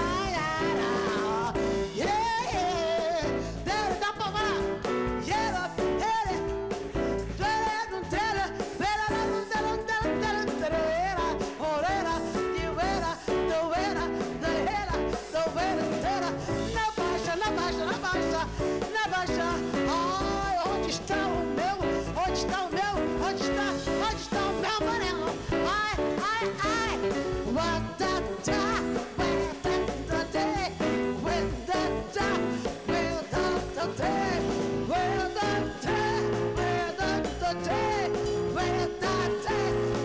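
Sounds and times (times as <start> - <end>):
band with keyboards drums and bass: 0.0 - 40.0
woman singing: 0.0 - 40.0.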